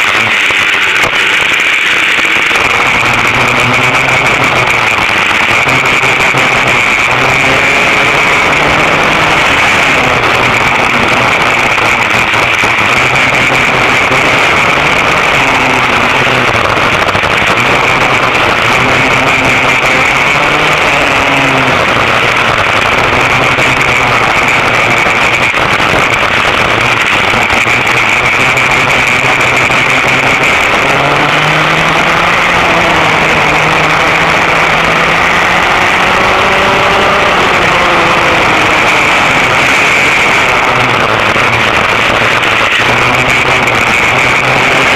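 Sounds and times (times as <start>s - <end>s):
racing kart engines running: 0.0s - 44.9s.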